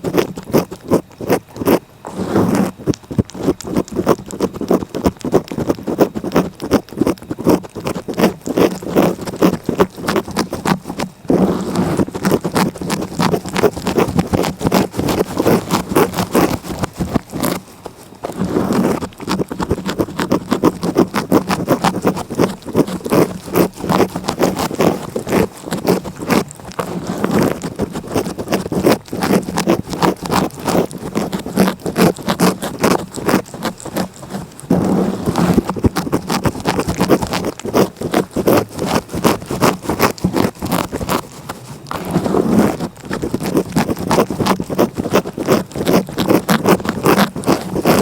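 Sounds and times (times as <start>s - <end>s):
cat licking: 0.0s - 48.0s.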